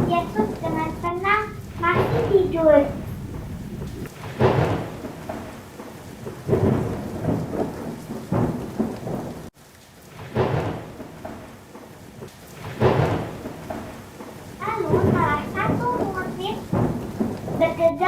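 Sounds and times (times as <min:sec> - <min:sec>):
thunder: 0:00.0 - 0:09.5, 0:10.1 - 0:17.9
steady rain: 0:00.0 - 0:18.0.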